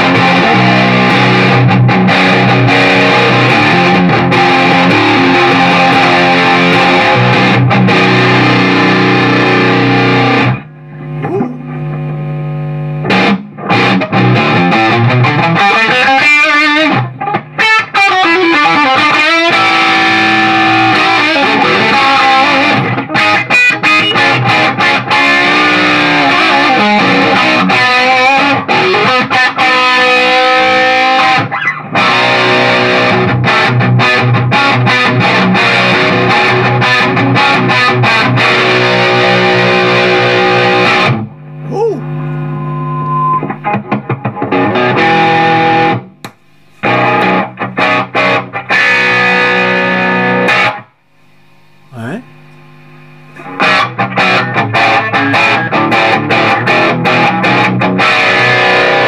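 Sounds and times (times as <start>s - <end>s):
distorted electric guitar riffing: 0.0s - 59.0s.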